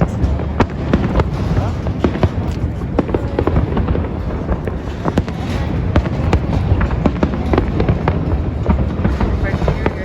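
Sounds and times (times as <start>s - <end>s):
fireworks cracking and popping: 0.0s - 10.0s
low rumble of booms: 0.0s - 10.0s.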